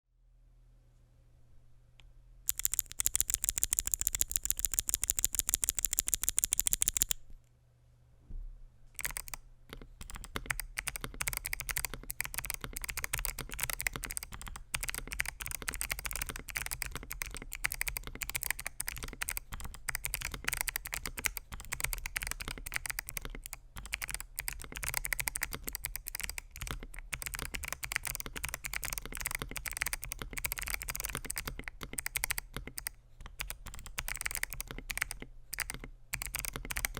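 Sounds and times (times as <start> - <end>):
mechanical keyboard typing: 2.5 - 7.2, 9.0 - 36.9.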